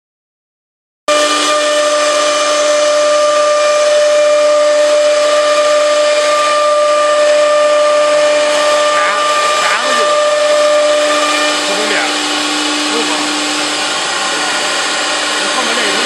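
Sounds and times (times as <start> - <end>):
wood router spindle whining: 1.1 - 16.0.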